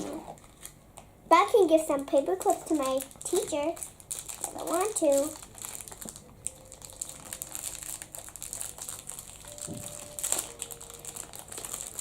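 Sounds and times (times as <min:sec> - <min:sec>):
plastic wrapping crinkling: 0:00.0 - 0:01.1, 0:01.7 - 0:12.0.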